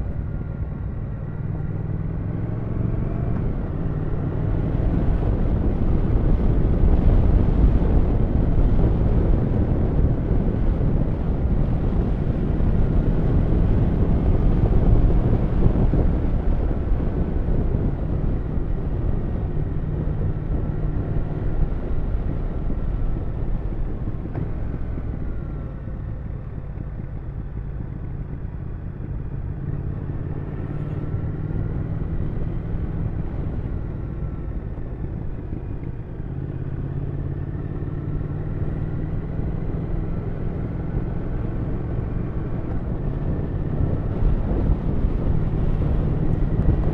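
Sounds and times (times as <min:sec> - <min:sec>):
motorcycle engine running: 0:00.0 - 0:46.9
rushing wind: 0:00.0 - 0:46.9.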